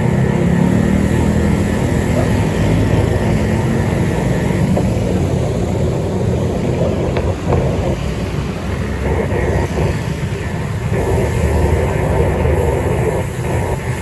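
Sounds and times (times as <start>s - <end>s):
road and wind noise: 0.0s - 14.0s
vehicle engine drone: 0.0s - 14.0s.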